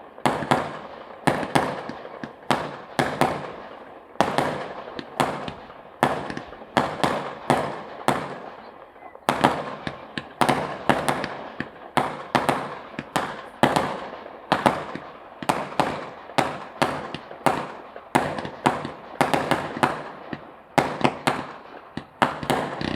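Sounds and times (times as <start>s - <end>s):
fireworks bangs and crackle: 0.0s - 22.9s.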